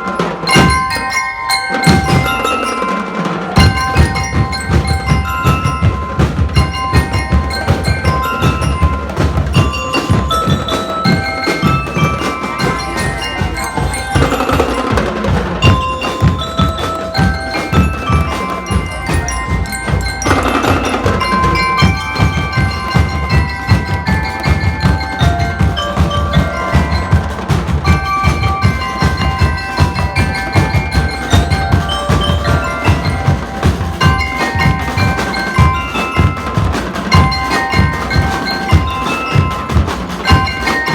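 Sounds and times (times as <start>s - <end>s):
bell lyre melody: 0.0s - 40.9s
marching drums beating: 0.0s - 40.9s.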